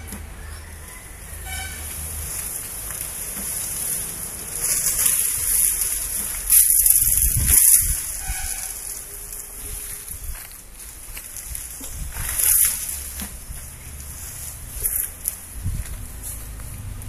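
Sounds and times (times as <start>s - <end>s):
palm fronds rustling and crackling: 0.0s - 17.0s.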